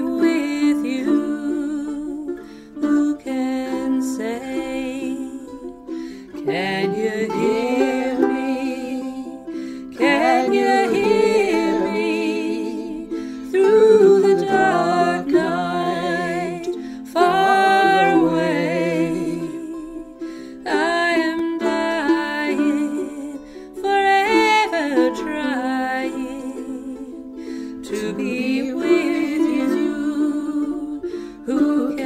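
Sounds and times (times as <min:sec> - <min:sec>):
ukulele music: 0:00.0 - 0:32.0.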